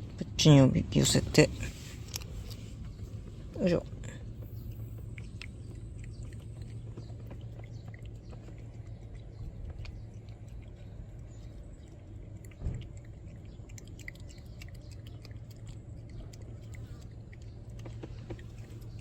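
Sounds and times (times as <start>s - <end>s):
cat licking and smacking: 2.0s - 19.0s.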